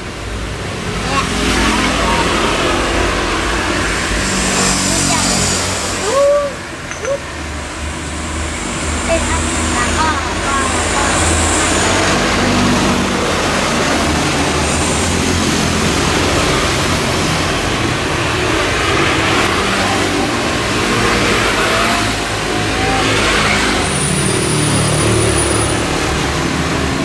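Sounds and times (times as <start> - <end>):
tyres hissing on wet asphalt: 0.0 - 6.8, 7.4 - 27.0
scooters passing by: 0.0 - 27.0.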